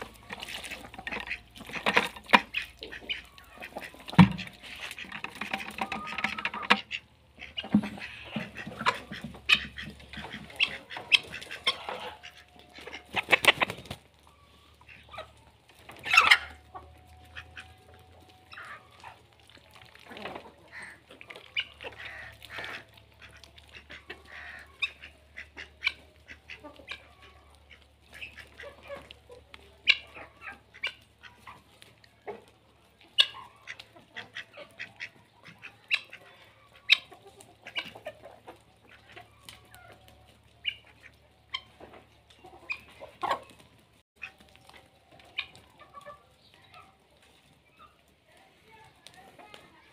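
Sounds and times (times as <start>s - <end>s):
hens clucking and calling: 0.0s - 49.9s.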